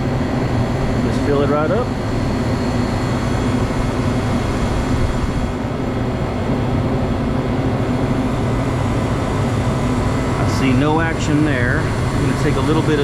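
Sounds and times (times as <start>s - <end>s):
compressor hum: 0.0s - 13.0s
condenser fan rushing: 0.0s - 13.0s.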